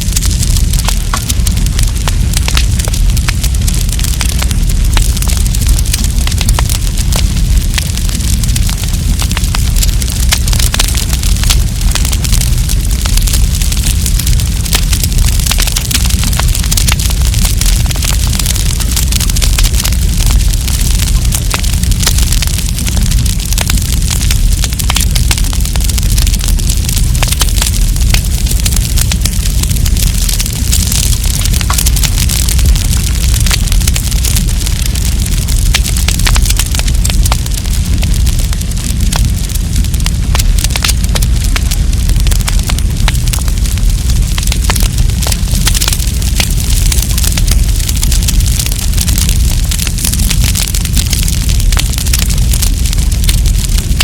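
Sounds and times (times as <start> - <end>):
campfire crackles and pops: 0.0 - 54.0
low rumble of flames: 0.0 - 54.0.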